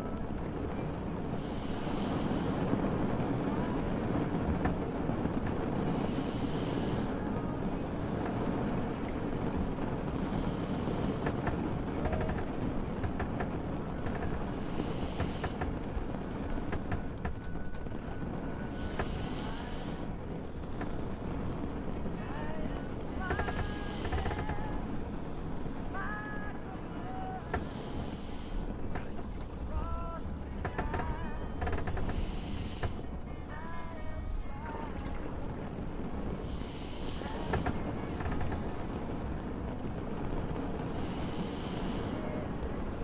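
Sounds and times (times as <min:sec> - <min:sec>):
low rumble of boat: 0:00.0 - 0:43.0
steady rain: 0:00.0 - 0:43.0.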